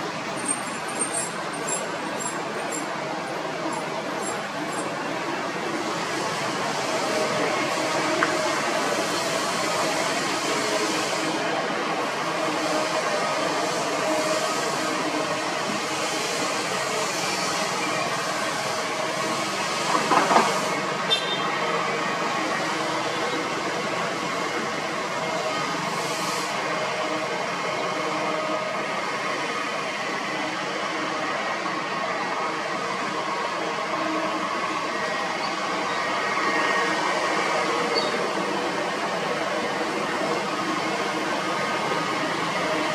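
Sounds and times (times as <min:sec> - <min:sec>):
excavator engine and hydraulics: 0:00.0 - 0:42.9.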